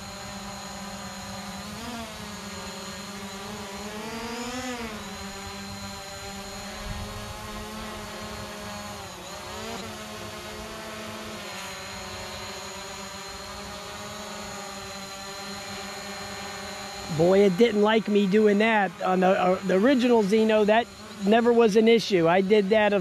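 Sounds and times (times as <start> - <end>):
quadcopter propellers whining: 0.0 - 23.0.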